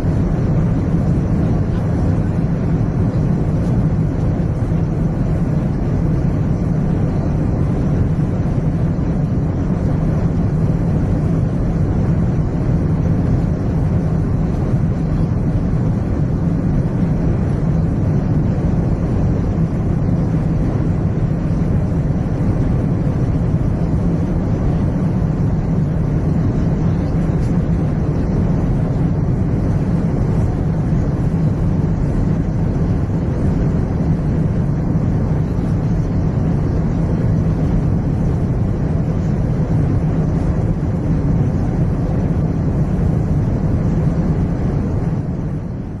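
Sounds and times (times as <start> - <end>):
airplane cabin engine rumble: 0.0 - 46.0.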